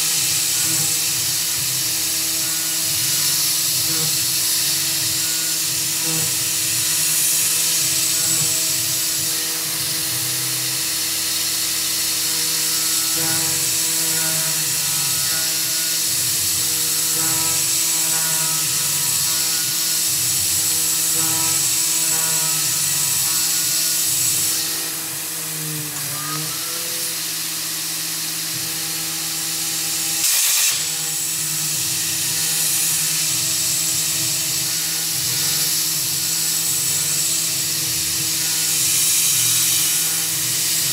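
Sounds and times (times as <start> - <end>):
high hiss: 0.0 - 40.9
mill cutting metal: 0.0 - 40.9.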